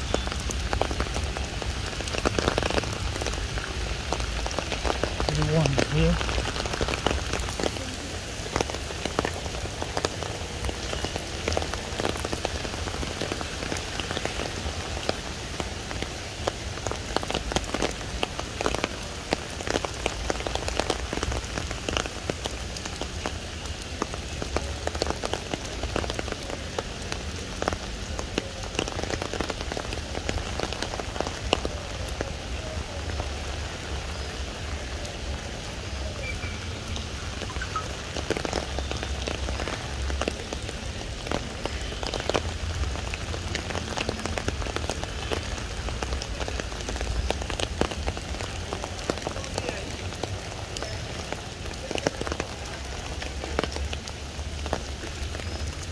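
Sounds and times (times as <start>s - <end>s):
rain falling on wet pavement: 0.0s - 55.9s.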